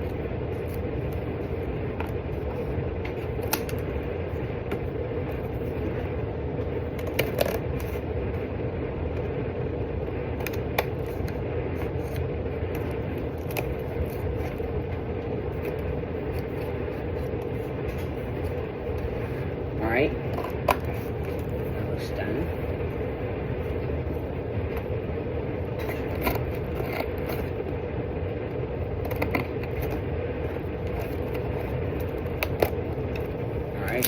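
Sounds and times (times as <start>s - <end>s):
droning background hum: 0.0s - 34.0s.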